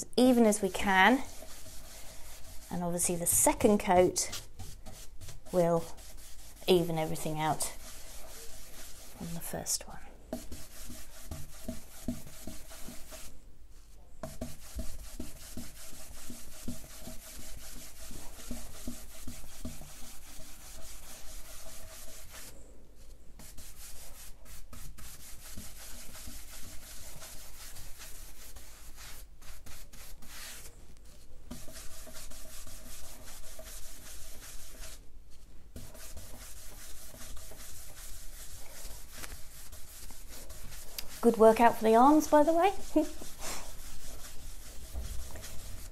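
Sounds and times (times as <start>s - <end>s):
brush bristles scrubbing wood: 0.2s - 13.4s, 14.2s - 22.6s, 23.4s - 35.0s, 35.8s - 45.9s.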